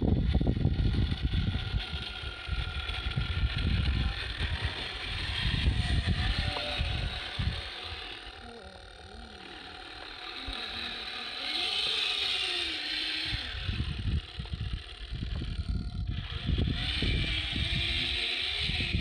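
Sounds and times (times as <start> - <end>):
rough rumbling and rustling bumps: 0.0 - 19.0
toy car electric motor whining: 0.0 - 19.0.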